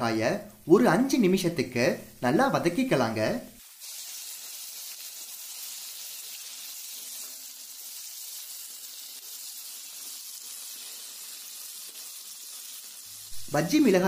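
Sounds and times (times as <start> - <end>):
vegetables sizzling in hot oil: 0.6 - 14.0.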